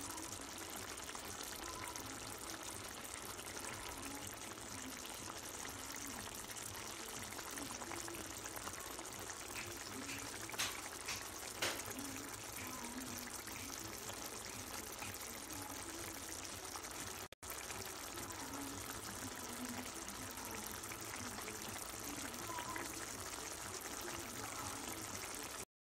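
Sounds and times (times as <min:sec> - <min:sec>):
gravy simmering in a pan: 0:00.0 - 0:25.7.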